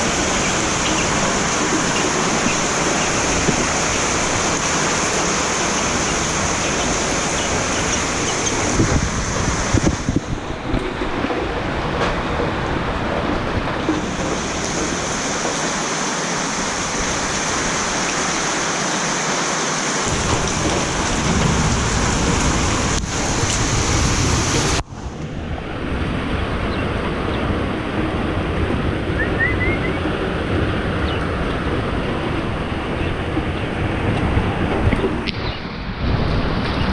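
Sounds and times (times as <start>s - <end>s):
heavy rain pouring: 0.0s - 36.9s.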